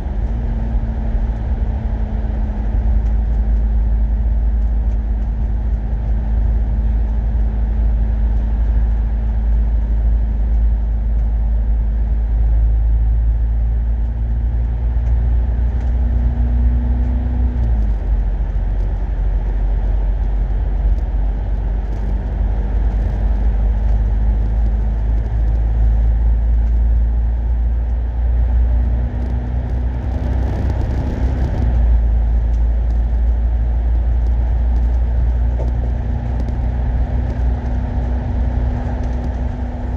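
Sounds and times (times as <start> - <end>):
bus engine drone: 0.0 - 39.9
low road rumble: 0.0 - 39.9.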